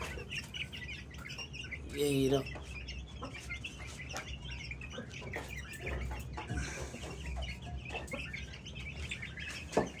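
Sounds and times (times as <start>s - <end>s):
chicks peeping and clucking: 0.0s - 10.0s.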